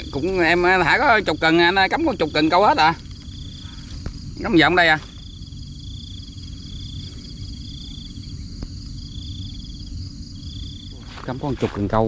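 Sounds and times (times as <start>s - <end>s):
high insect hum: 0.0s - 12.0s
insects trilling: 0.0s - 12.0s
low rumble: 0.0s - 12.0s.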